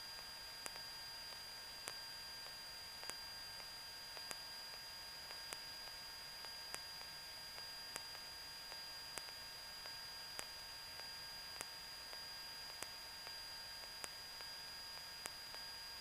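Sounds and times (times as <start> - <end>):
faint electrical hiss: 0.0 - 16.0.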